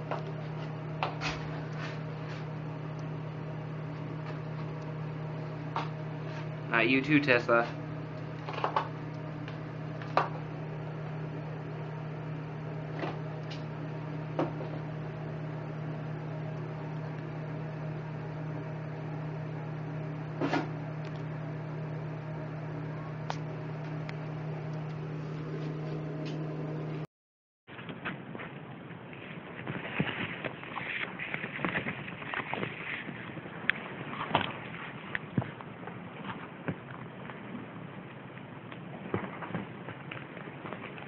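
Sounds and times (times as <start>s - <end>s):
low electrical hum: 0.0s - 27.1s, 27.7s - 41.0s.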